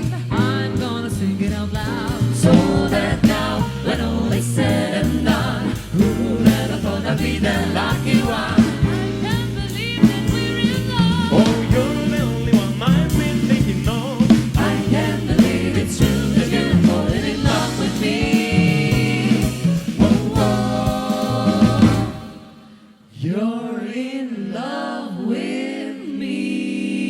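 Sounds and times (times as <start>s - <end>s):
jazz band with drums: 0.0s - 22.6s
vocal group singing in harmony: 0.0s - 27.0s.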